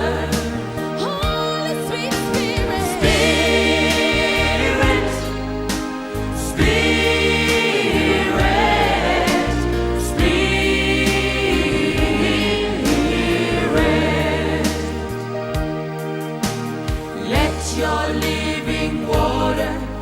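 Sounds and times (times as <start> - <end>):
choir singing long held notes: 0.0 - 20.0
steady bass accompaniment: 0.0 - 20.0.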